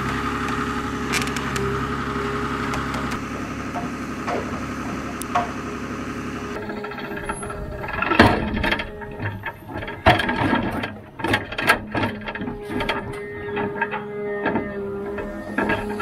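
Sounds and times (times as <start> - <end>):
crane clanks and knocks: 0.0 - 16.0
machine humming: 0.0 - 16.0.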